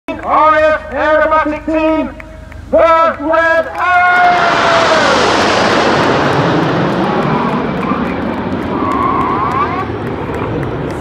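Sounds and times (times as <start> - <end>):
jets flying over: 0.2 - 11.0.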